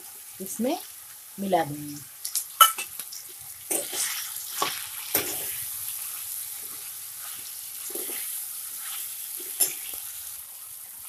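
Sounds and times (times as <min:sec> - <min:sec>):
frying sizzle in hot oil: 0:00.0 - 0:11.0.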